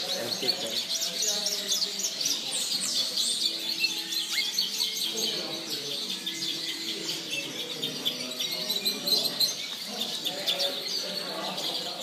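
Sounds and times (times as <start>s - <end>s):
songbirds chirping and singing: 0.0s - 12.0s.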